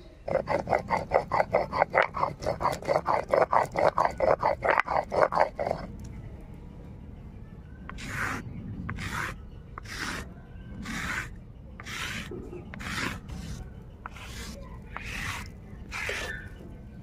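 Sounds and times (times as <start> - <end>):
rasping strokes on grinding stone: 0.2 - 5.9, 7.9 - 16.6.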